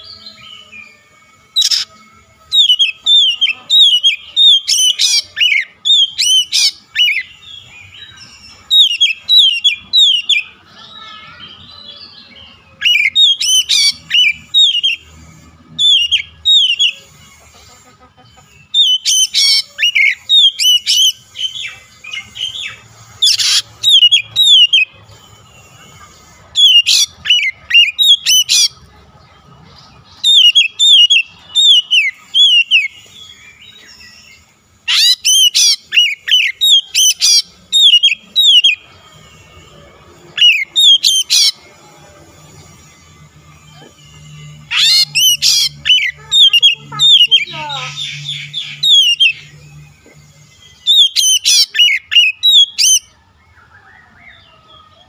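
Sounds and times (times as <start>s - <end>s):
bird singing whistled notes: 0.0s - 17.4s, 18.6s - 28.8s, 30.1s - 55.0s.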